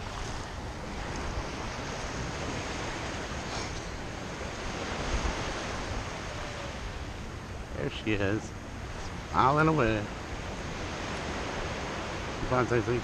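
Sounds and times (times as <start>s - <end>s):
small surf washing onto beach: 0.0s - 13.0s
wind on microphone: 0.0s - 13.0s.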